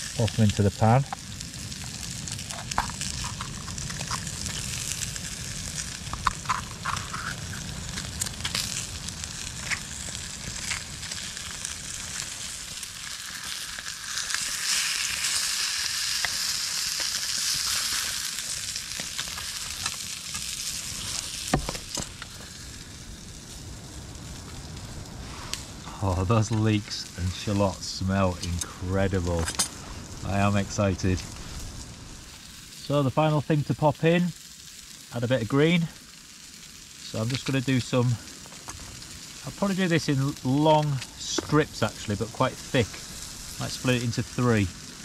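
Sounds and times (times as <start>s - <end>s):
vegetables sizzling in oil: 0.0s - 45.0s.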